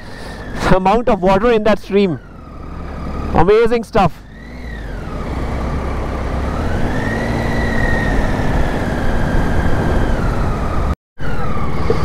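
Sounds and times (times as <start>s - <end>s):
motorcycle engine under way: 1.3s - 12.0s.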